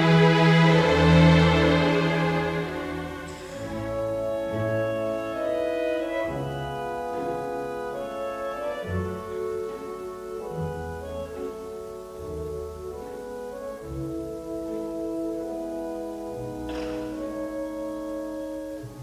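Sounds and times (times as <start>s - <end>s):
slow sustained chords with bass: 0.0s - 19.0s.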